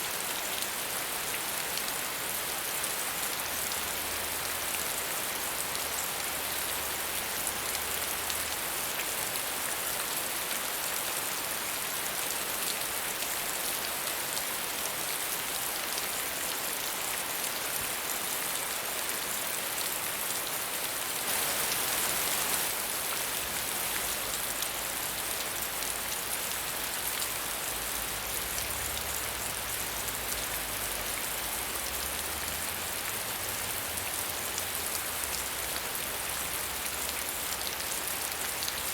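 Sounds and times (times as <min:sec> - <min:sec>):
medium rainfall: 0:00.0 - 0:38.9.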